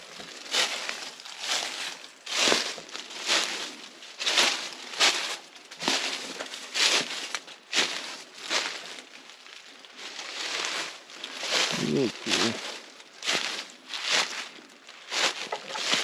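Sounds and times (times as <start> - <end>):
footsteps crunching on forest floor: 0.0 - 16.0.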